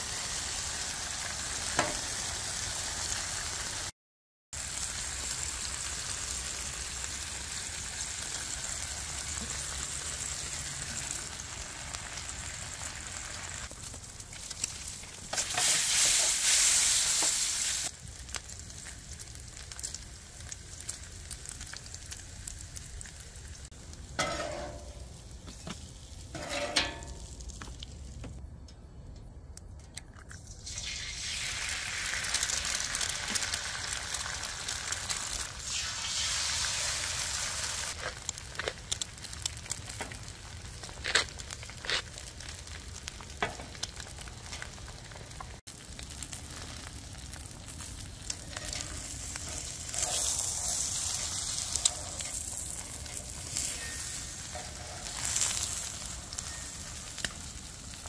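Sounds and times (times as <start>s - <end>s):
food sizzling on griddle: 0.0s - 3.9s, 4.6s - 28.2s, 30.5s - 58.0s.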